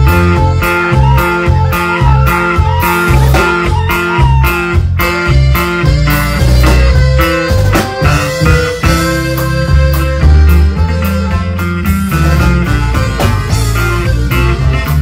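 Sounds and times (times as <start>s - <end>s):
lead guitar bent sliding notes: 0.0s - 15.0s
live band playing instrumental: 0.0s - 15.0s.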